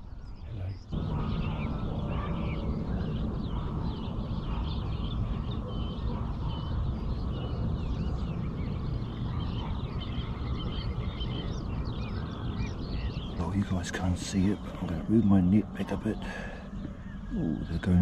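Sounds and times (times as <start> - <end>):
small birds chirping and whistling: 0.0 - 18.0.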